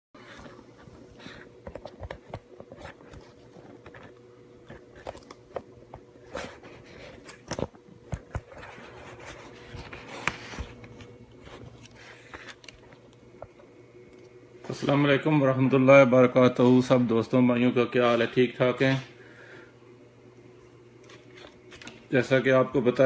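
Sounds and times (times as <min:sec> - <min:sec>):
faint steady hum: 0:00.2 - 0:23.0.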